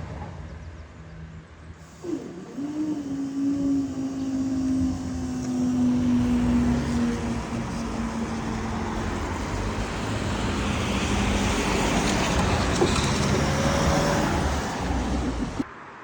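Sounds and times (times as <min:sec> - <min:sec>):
diesel train passing: 0:00.0 - 0:15.7.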